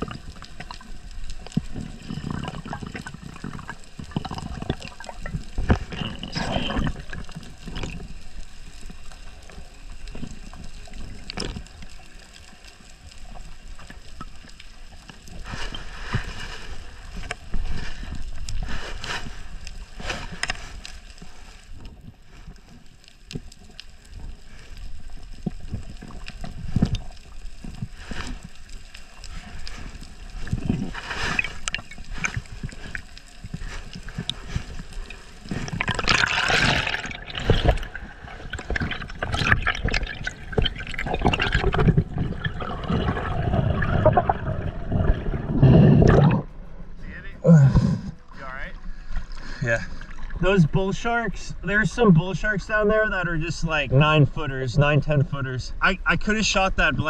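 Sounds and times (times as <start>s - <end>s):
sharp clicks and crackles: 0.0s - 47.1s
muffled underwater movement: 0.0s - 57.0s
water surges: 0.0s - 57.0s.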